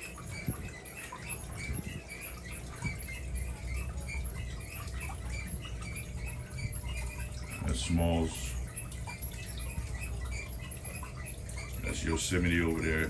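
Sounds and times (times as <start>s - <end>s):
low pump hum: 0.0s - 13.0s
small water splashes: 0.0s - 13.0s
trickle of falling water: 0.0s - 13.0s.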